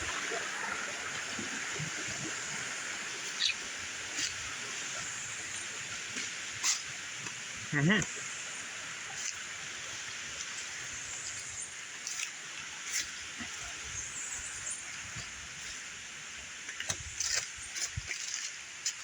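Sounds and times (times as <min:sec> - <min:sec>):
river flowing: 0:00.0 - 0:19.0.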